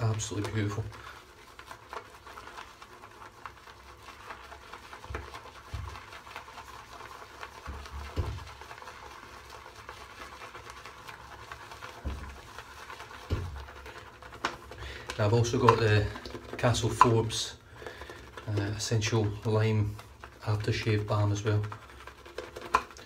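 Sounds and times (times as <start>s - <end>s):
brush whipping shaving cream: 0.0s - 23.0s.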